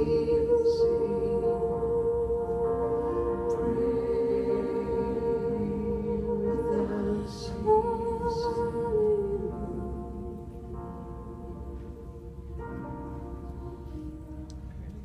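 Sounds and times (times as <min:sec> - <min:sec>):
singers holding long notes: 0:00.0 - 0:15.0.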